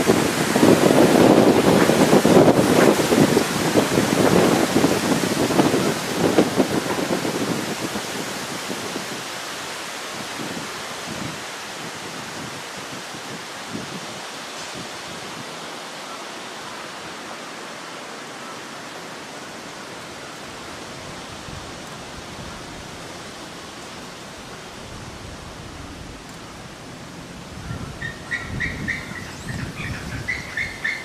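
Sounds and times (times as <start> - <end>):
wind buffeting microphone: 0.0 - 15.6, 20.5 - 31.0
strong wind blowing: 0.0 - 15.7, 20.4 - 31.0.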